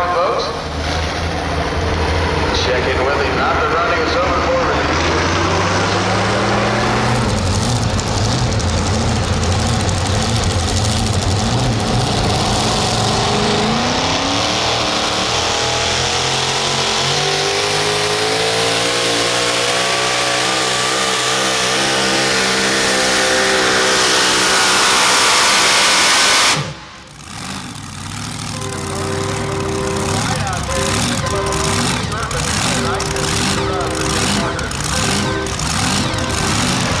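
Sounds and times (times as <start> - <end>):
truck engine running hard: 0.0 - 37.0.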